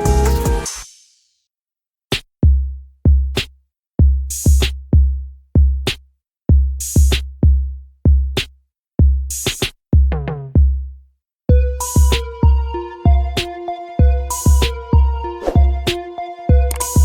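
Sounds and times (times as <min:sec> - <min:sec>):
electronic drum machine beat: 0:02.4 - 0:10.8, 0:11.5 - 0:17.0.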